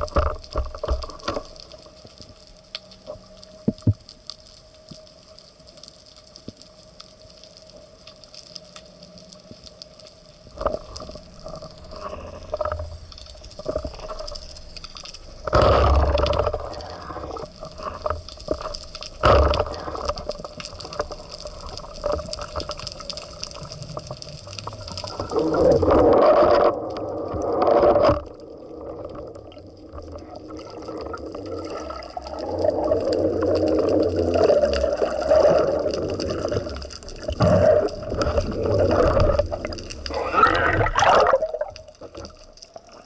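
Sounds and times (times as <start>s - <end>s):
water gurgling and sloshing: 0.0s - 4.6s, 9.4s - 43.0s.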